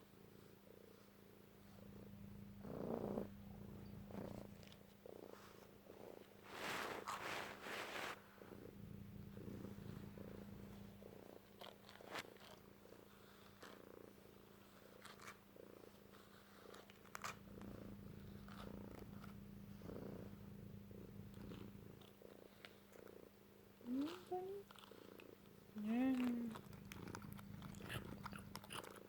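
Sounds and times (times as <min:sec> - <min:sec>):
cat purring: 0:00.0 - 0:29.0
rustling: 0:00.9 - 0:23.2, 0:23.9 - 0:29.0.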